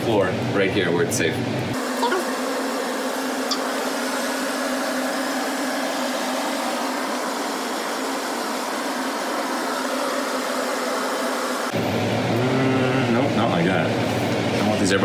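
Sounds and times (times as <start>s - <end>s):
steady whirring: 0.4s - 15.0s.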